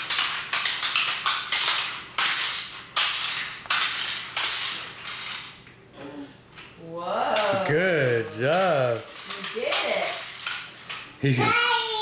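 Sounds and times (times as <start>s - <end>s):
toy roller skates clacking on wood: 0.0s - 5.8s, 6.5s - 12.0s.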